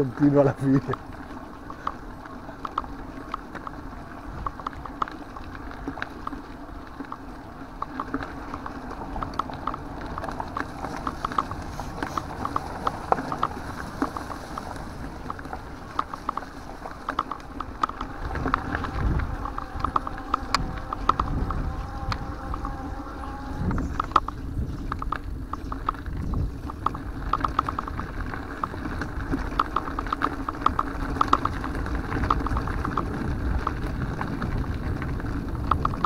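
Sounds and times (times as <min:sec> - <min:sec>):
bicycle rolling over gravel: 0:00.0 - 0:36.0
bike clicks and rattles: 0:00.0 - 0:36.0
wind rumble on microphone: 0:00.0 - 0:36.0.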